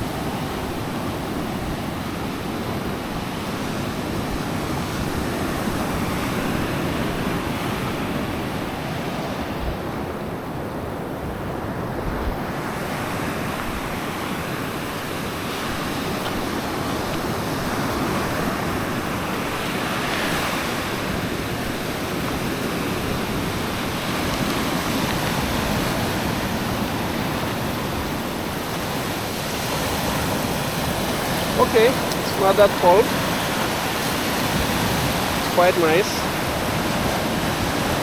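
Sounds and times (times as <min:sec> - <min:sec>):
surf washing onto beach: 0:00.0 - 0:38.0
wind buffeting microphone: 0:00.0 - 0:38.0.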